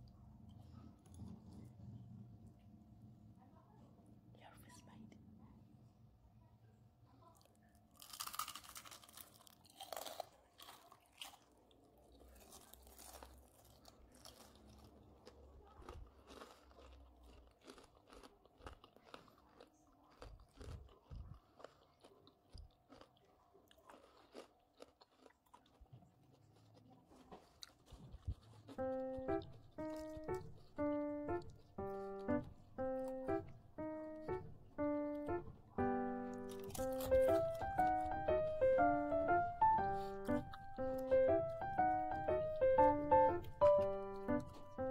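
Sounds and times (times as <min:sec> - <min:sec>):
chewing crispy onion ring: 0:07.3 - 0:44.9.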